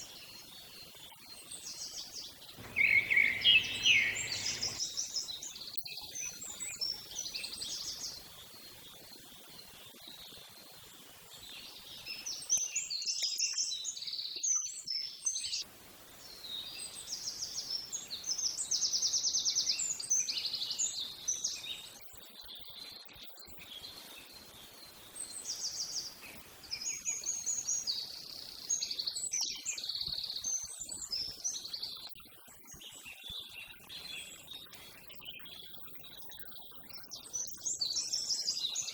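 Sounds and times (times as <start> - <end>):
small birds singing: 0.0 - 10.7, 11.3 - 15.6, 16.2 - 38.9.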